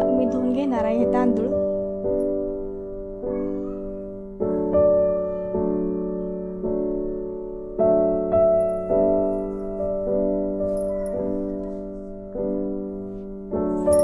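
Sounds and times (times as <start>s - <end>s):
slow gentle piano chords: 0.0s - 14.0s.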